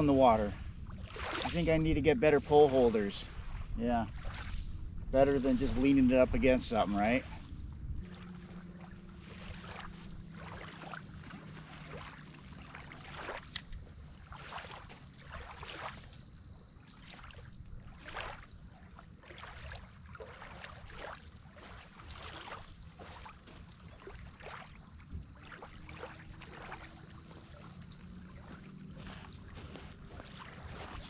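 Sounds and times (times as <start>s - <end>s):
low rumble of wind: 0.0s - 31.0s
small waves lapping: 0.0s - 31.0s.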